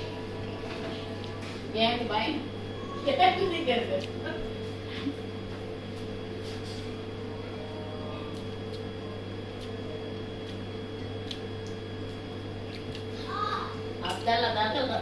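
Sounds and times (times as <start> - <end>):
electrical appliance humming: 0.0 - 15.0.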